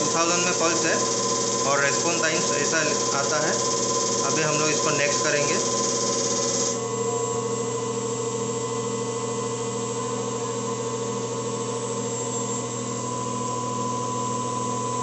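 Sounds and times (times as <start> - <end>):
high-pressure pump humming: 0.0 - 15.0.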